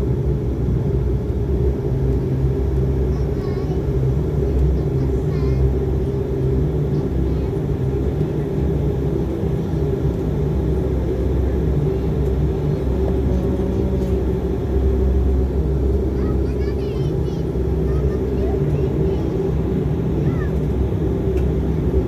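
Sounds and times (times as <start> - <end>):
turboprop engines droning: 0.0 - 22.0.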